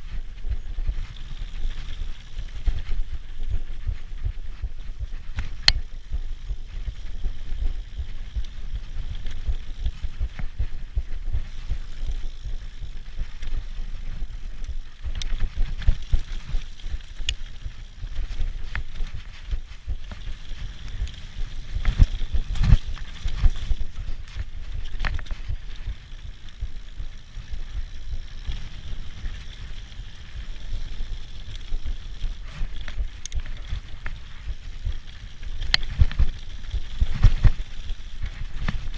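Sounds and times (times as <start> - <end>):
bike clicks and rattles: 0.0 - 38.9
mountain bike rumbling on dirt trail: 0.0 - 38.9.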